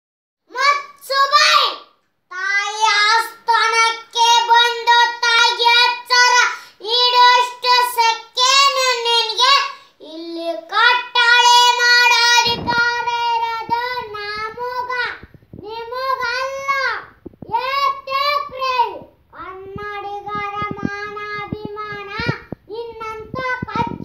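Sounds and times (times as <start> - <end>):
boy singing loudly: 0.5 - 24.0.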